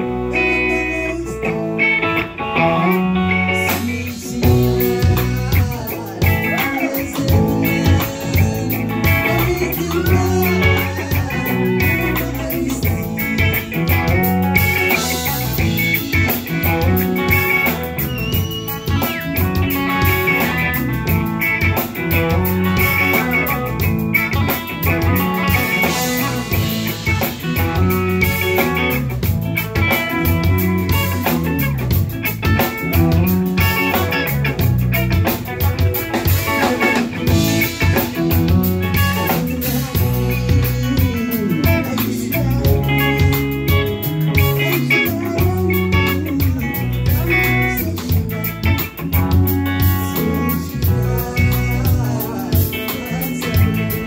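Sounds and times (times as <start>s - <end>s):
interlocking electric guitars: 0.0s - 54.0s
drum kit beat: 2.6s - 54.0s.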